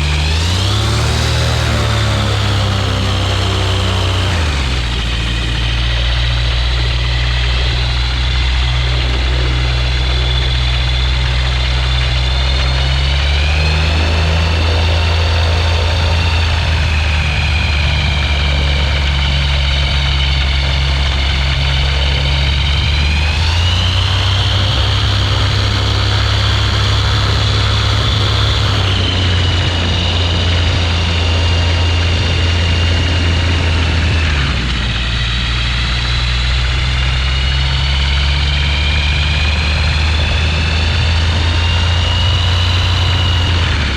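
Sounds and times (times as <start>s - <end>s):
ultralight aircraft engine and propeller: 0.0s - 43.9s.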